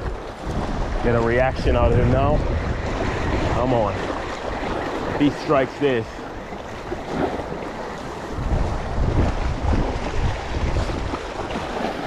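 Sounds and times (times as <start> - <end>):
waves on rocky shoreline: 0.0 - 12.0
wind buffeting microphone: 0.0 - 12.0.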